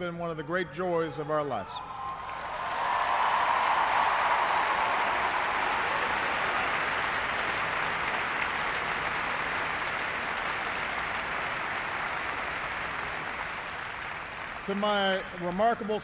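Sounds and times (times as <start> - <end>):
audience applauding: 2.0 - 16.0.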